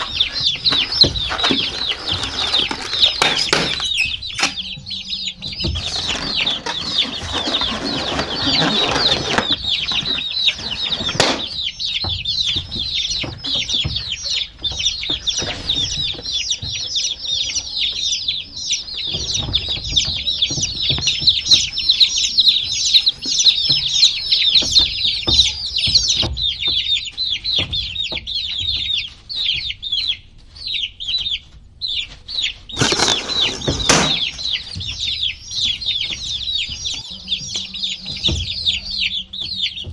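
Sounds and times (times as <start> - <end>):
rustling: 0.0 - 26.3, 32.8 - 39.1
baby chicks peeping: 0.0 - 39.9.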